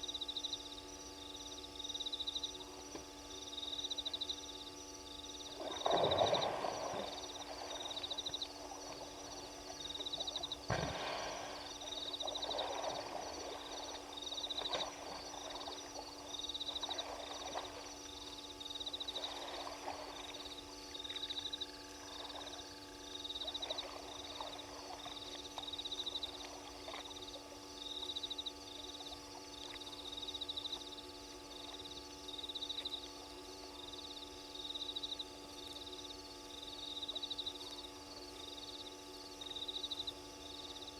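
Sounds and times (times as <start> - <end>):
frogs rasping croaks: 0.0 - 40.9
steady low hum: 0.0 - 40.9.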